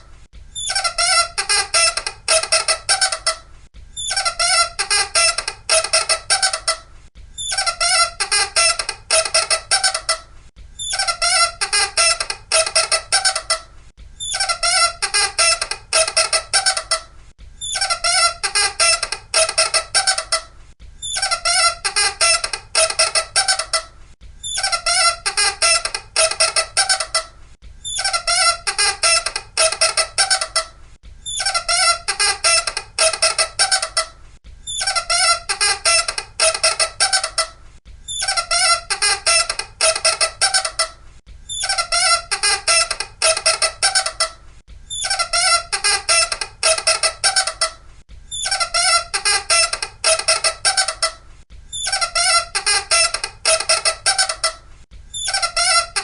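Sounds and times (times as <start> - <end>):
loud high-pitched squeaking: 0.6 - 3.4, 4.0 - 6.8, 7.4 - 10.2, 10.8 - 56.0.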